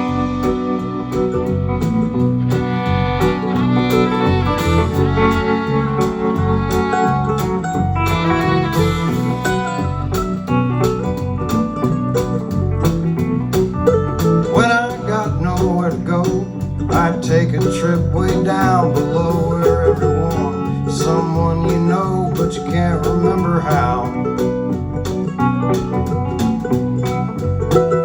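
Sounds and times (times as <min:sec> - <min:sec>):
country band playing live: 0:00.0 - 0:28.0.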